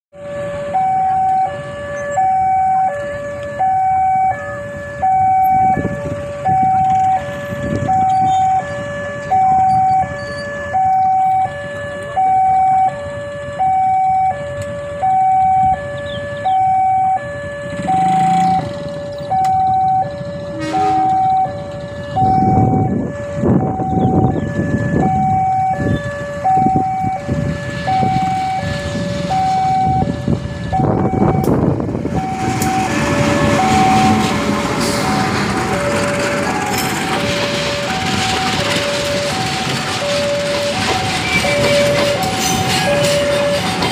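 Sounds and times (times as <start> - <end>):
level crossing alarm two-tone: 0.2 - 3.0, 3.6 - 13.0, 13.6 - 34.3, 35.0 - 43.7.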